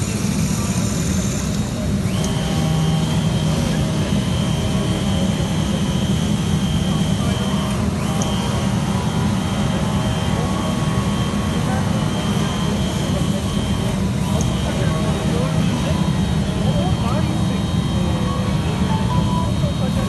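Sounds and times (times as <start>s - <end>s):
high steady whine: 0.0s - 20.0s
loud blower-like machine noise: 0.0s - 20.0s.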